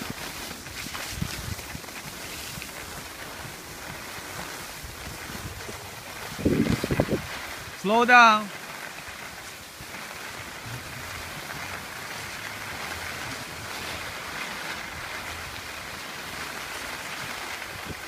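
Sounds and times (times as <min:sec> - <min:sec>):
wind on microphone: 0:00.0 - 0:07.9, 0:08.8 - 0:18.0
skis sliding over snow: 0:00.0 - 0:18.0.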